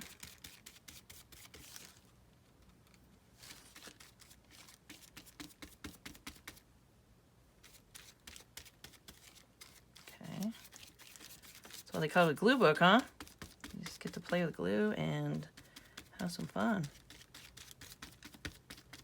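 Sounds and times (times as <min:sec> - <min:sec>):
glue spread on paper: 0:00.0 - 0:01.9, 0:03.5 - 0:06.6, 0:07.6 - 0:14.6, 0:15.3 - 0:19.0.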